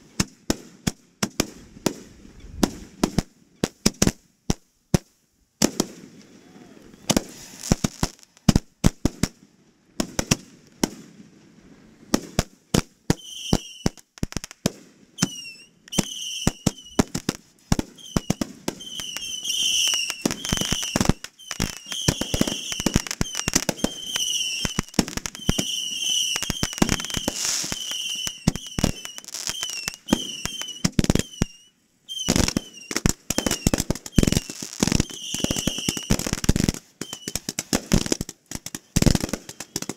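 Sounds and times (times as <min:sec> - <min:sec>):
fireworks bangs and booms: 0:00.0 - 0:39.9.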